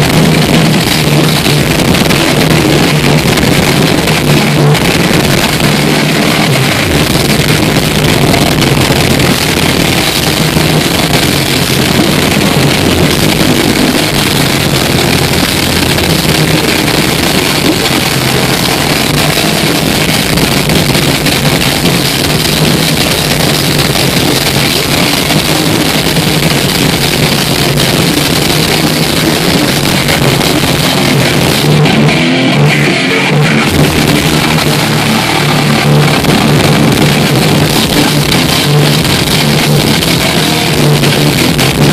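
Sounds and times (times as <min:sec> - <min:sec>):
live death metal band: 0:00.0 - 0:41.9.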